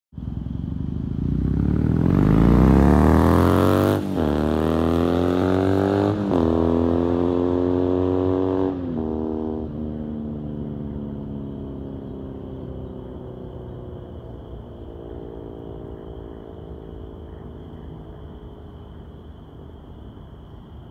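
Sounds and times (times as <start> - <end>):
motorcycle engine revving: 0.3 - 19.3.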